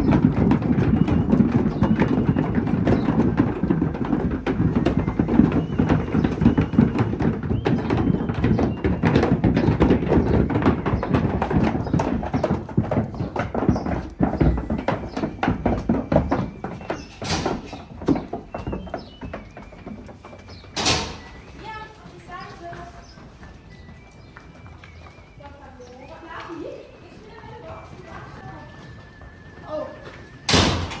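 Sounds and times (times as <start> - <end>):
hooves clattering on wooden ramp: 0.0 - 31.0.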